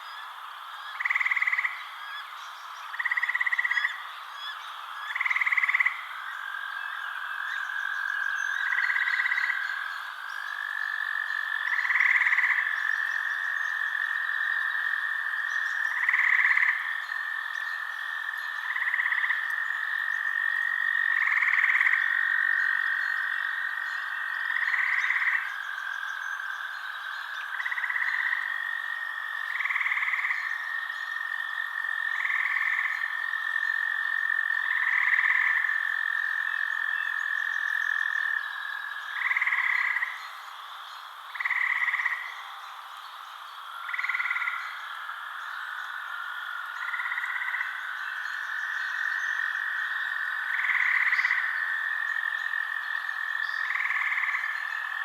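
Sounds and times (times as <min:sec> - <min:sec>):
frogs trilling chorus: 0:00.0 - 0:55.0.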